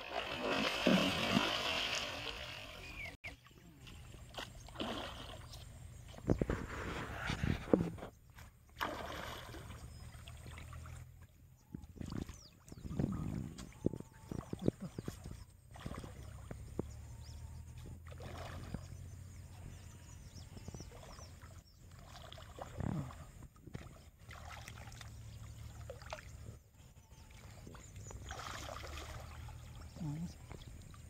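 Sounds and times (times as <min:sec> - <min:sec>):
water sloshing and splashing: 0:00.0 - 0:17.0, 0:17.6 - 0:19.4, 0:20.6 - 0:31.0.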